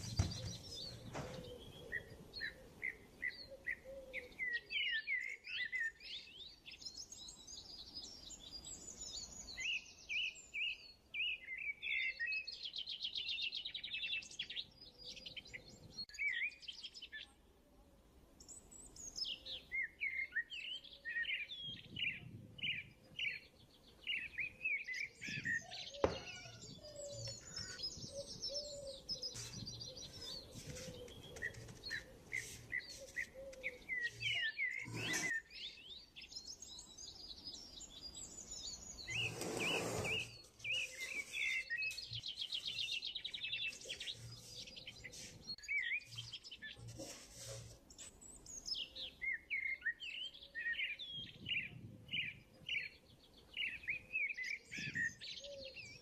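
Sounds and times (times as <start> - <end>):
birds chirping and trilling: 0.0 - 17.4, 18.4 - 56.0.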